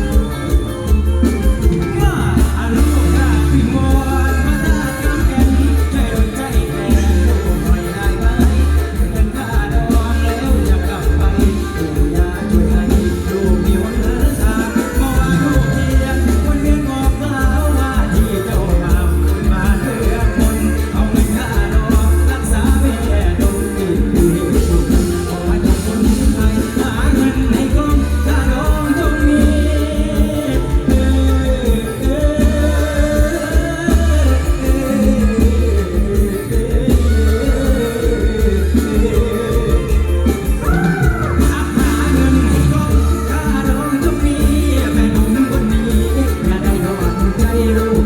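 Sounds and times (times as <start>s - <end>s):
live band music: 0.0s - 48.0s
person singing: 0.0s - 48.0s.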